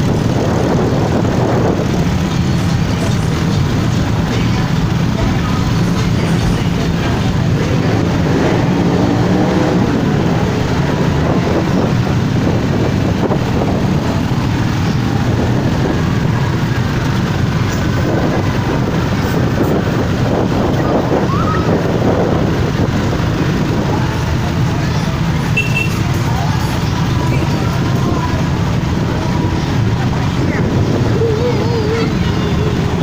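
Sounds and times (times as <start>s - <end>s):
motorcycles passing by: 0.0s - 33.0s
wind noise on microphone: 0.0s - 33.0s.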